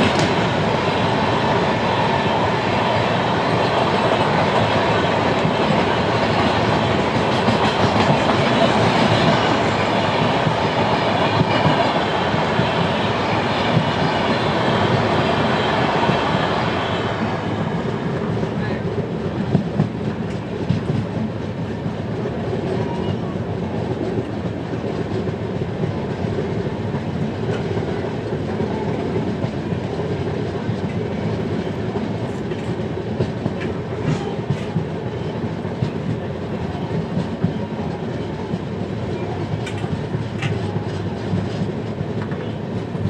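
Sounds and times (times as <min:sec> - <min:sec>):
train rumbling and rattling: 0:00.0 - 0:43.0.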